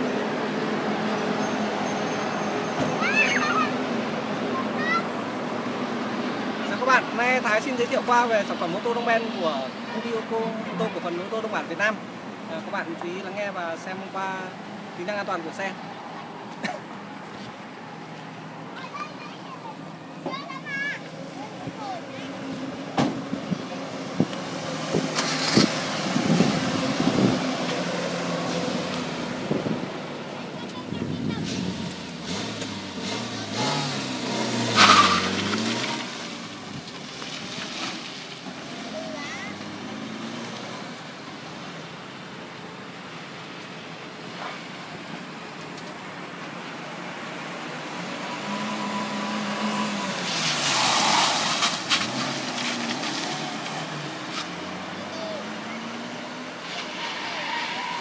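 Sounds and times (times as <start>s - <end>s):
tyre and road noise: 0.0s - 58.0s.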